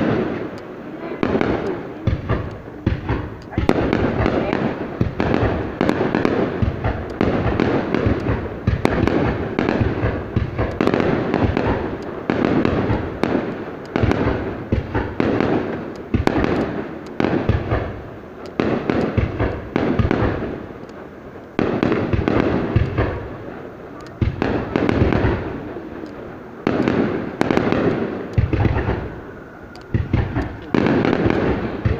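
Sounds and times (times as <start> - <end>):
fireworks bangs: 0.0 - 31.9.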